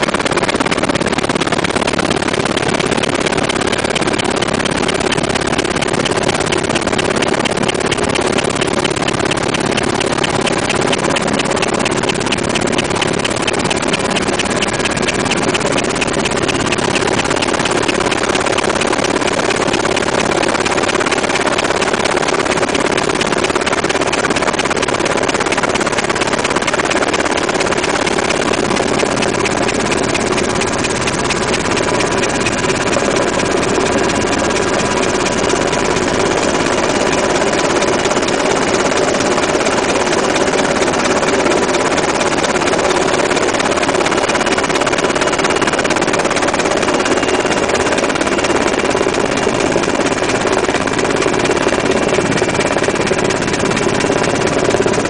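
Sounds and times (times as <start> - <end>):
helicopter engines and rotor: 0.0 - 55.0.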